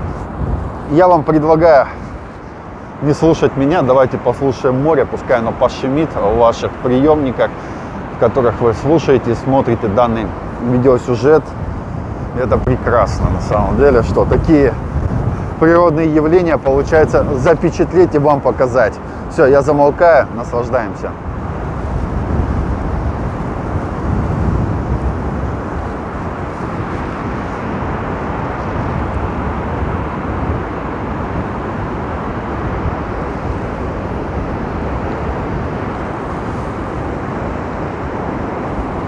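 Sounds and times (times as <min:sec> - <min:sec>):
waves breaking on beach: 0:00.0 - 0:39.0
wind buffeting microphone: 0:00.0 - 0:39.0.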